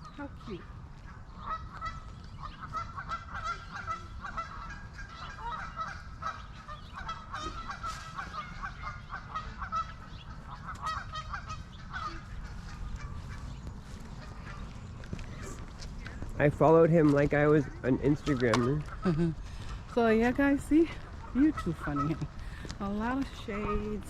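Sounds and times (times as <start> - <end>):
geese honking: 0.0 - 15.7, 16.4 - 24.0
steady low rumble: 0.0 - 24.0.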